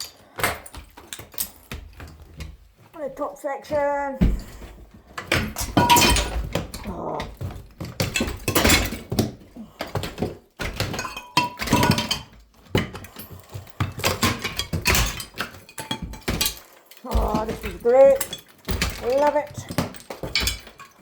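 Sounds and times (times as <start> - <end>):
hammer knocking tiles: 4.2 - 21.0.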